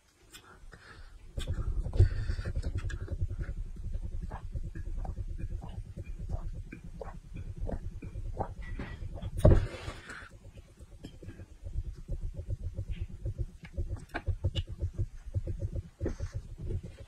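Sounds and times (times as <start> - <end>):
person swallowing water: 0.3 - 17.0
wet mouth clicks and smacks: 0.3 - 17.0.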